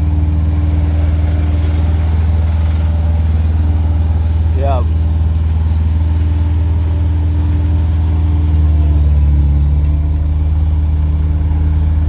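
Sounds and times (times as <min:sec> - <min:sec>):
large vehicle engine idling: 0:00.0 - 0:12.0.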